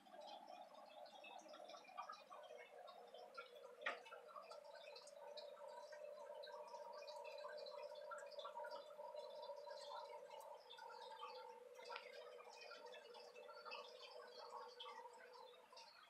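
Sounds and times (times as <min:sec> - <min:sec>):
faint steady hum: 0:00.0 - 0:16.0
light ticks: 0:00.0 - 0:16.0.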